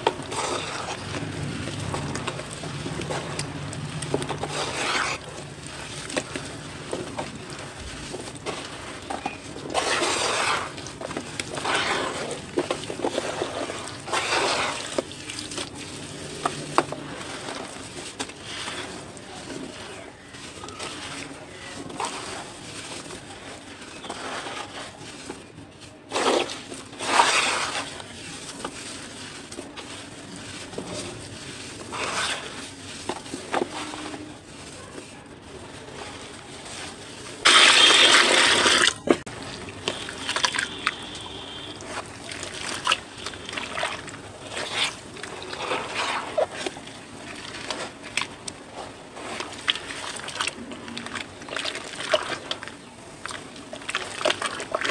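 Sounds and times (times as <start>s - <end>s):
water sloshing: 0.0s - 54.9s.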